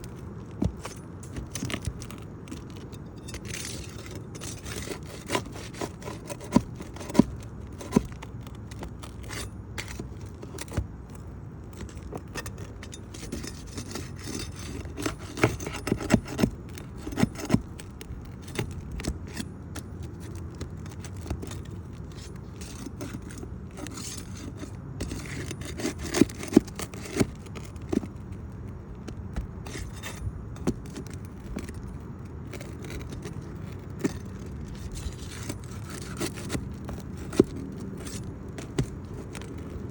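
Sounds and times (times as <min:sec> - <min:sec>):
flat bar scraping under shingles: 0:00.0 - 0:39.9.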